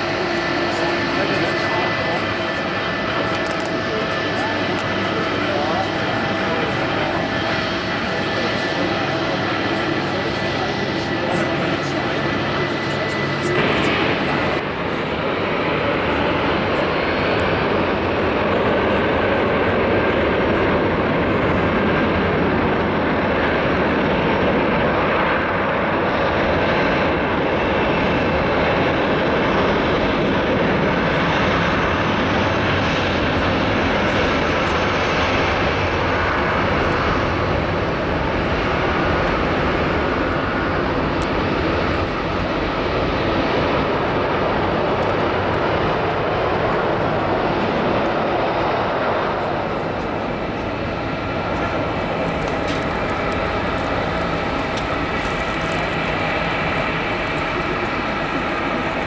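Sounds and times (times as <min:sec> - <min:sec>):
jet engines at high thrust: 0:00.0 - 0:59.0.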